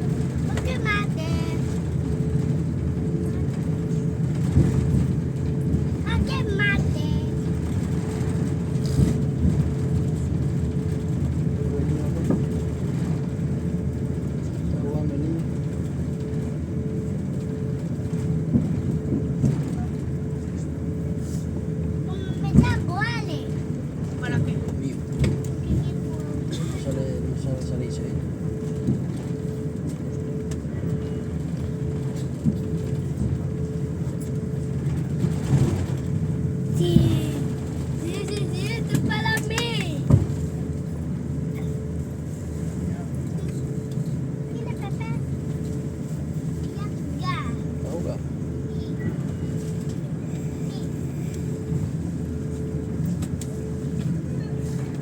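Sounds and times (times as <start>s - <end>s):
airliner cabin rumble: 0.0s - 55.0s
constant hum: 0.0s - 55.0s.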